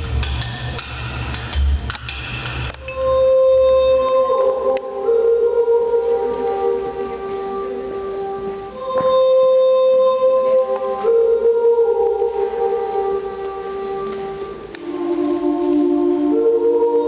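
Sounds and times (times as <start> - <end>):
slow held music notes: 2.0 - 17.0.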